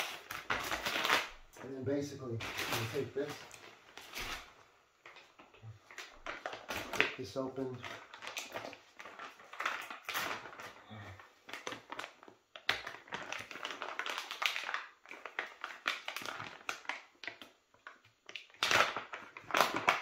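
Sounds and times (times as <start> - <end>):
foil pouch crinkling: 0.0 - 20.0
foil pouch ripping: 0.0 - 20.0.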